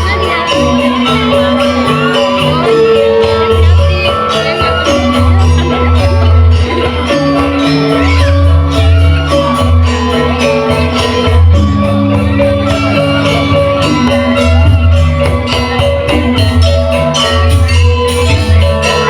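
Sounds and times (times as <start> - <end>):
metallophones struck rapidly: 0.0 - 19.0.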